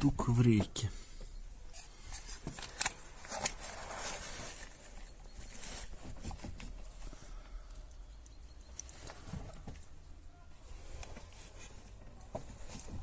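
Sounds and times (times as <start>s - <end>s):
rustling: 1.6s - 7.9s, 8.6s - 13.0s.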